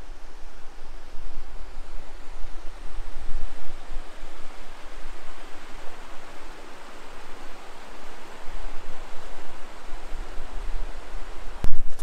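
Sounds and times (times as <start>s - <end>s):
wind rumbling on microphone: 0.0s - 12.0s
stream flowing over rocks: 0.2s - 11.6s.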